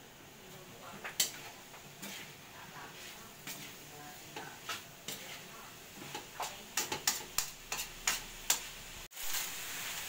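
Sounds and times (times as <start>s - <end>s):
light sizzle: 0.0s - 10.0s
metal spatula scraping a wok: 0.9s - 10.0s.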